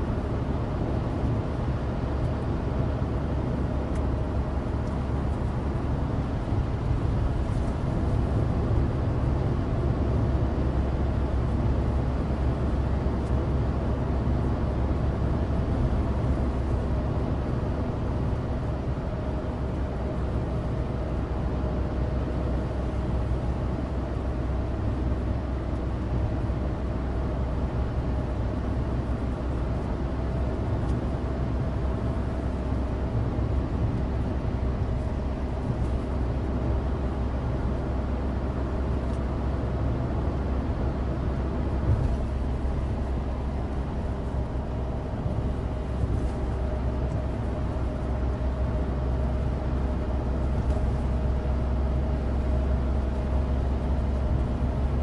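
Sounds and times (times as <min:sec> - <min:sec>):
car engine running: 0:00.0 - 0:55.0
tyre road noise: 0:00.0 - 0:55.0.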